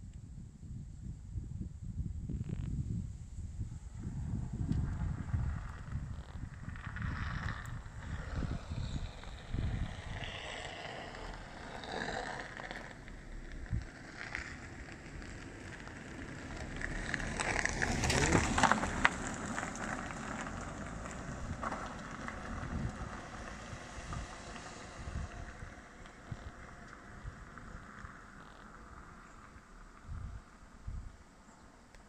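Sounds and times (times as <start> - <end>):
wind rushing past car: 0.0 - 32.0
tyre and engine rumble: 3.6 - 32.0.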